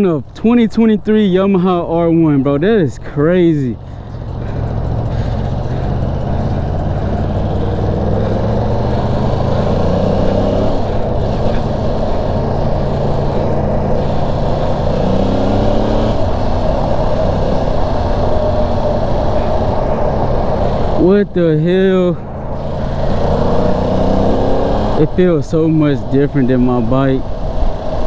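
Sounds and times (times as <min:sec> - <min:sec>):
motorcycle engine accelerating: 0:00.0 - 0:28.0
wind noise: 0:00.2 - 0:28.0.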